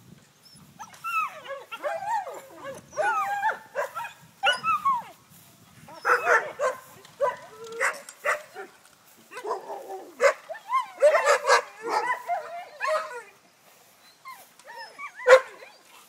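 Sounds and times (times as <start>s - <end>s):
dogs barking and yowling: 0.6s - 5.2s, 5.9s - 16.0s.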